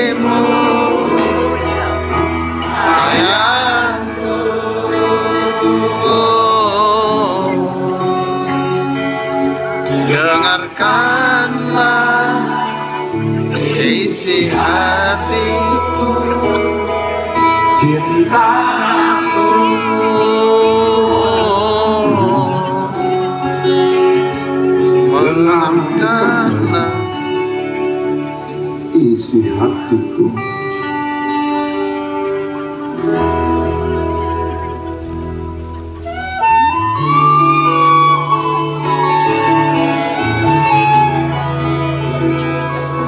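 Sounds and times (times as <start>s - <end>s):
live band playing slow song: 0.0s - 43.0s
sliding lead melody: 0.0s - 43.0s.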